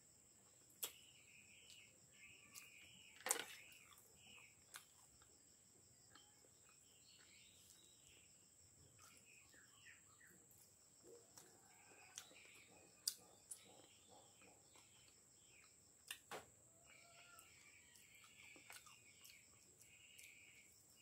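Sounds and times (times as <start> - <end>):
high insect trill: 0.0 - 16.0, 16.6 - 21.0
bird-like chirps: 0.8 - 4.6, 6.1 - 10.4, 11.0 - 15.8, 16.8 - 21.0.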